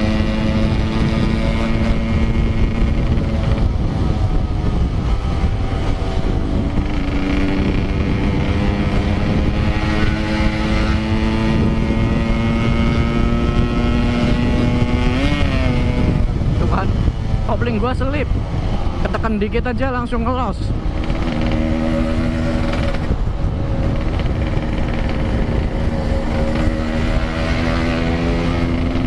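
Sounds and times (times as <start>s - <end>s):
motorcycle engine running: 0.0s - 29.0s
road rumble: 0.0s - 29.0s
wind noise on microphone: 0.0s - 29.0s.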